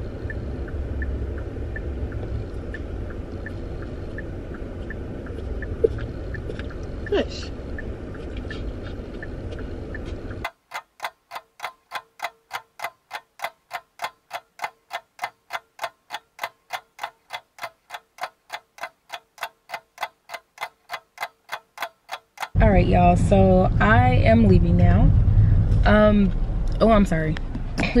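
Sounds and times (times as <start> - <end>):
clock ticking: 0.0 - 22.6
steady background noise: 0.0 - 28.0.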